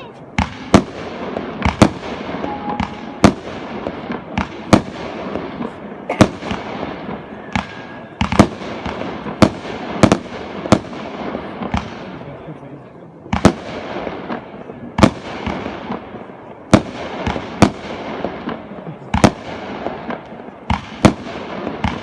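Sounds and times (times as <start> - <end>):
firework bangs: 0.0 - 12.5, 13.2 - 22.0
fireworks crackle and rumble: 0.0 - 22.0.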